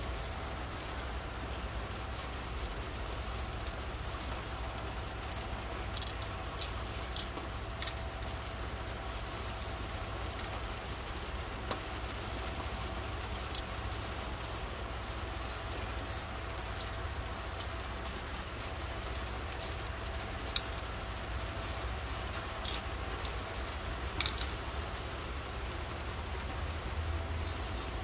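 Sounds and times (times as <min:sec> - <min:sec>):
sharp raindrop hits: 0:00.0 - 0:28.0
steady rain falling: 0:00.0 - 0:28.0.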